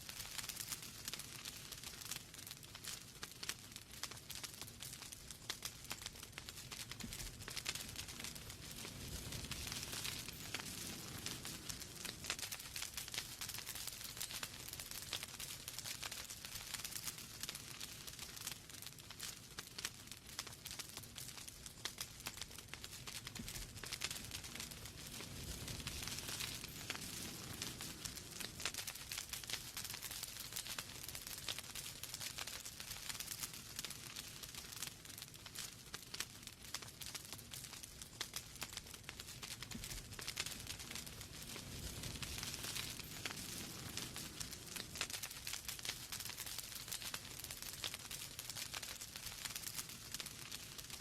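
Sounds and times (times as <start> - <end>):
logs crackling and popping: 0.0 - 51.0
low rumble of flames: 0.0 - 51.0.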